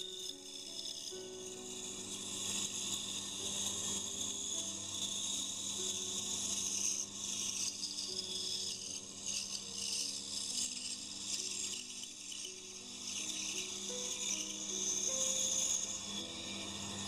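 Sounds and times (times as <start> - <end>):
band saw blade hissing in wood: 0.0 - 17.0.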